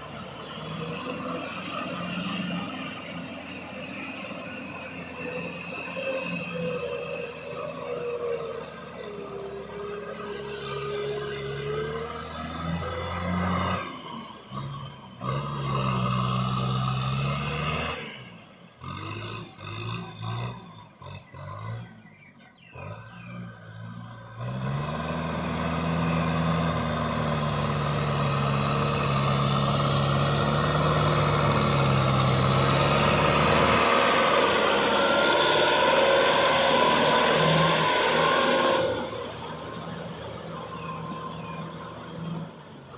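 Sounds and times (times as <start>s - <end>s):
tractor engine working hard: 0.0s - 42.9s.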